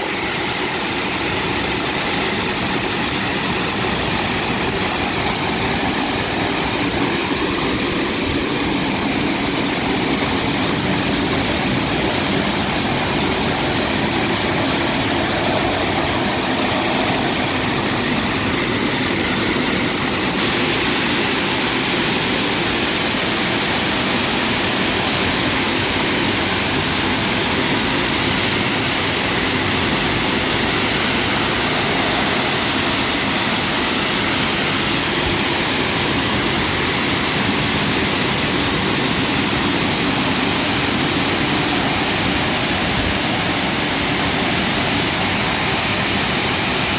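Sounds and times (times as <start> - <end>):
car wash rushing noise: 0.0 - 46.9.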